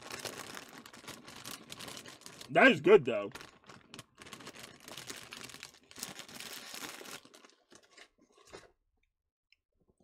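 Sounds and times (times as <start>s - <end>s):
plastic snack bag crinkling: 0.0s - 8.7s.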